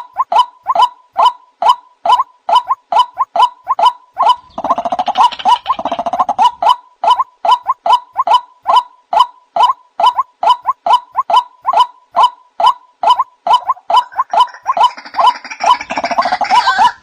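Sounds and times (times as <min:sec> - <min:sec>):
waterhens calling harsh notes: 0:00.0 - 0:17.0.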